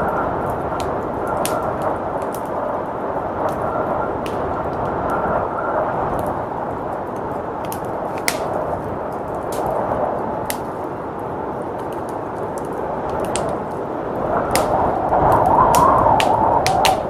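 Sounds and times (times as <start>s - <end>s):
snowstorm wind rushing: 0.0s - 17.0s
wood fire crackling and popping: 0.0s - 17.0s.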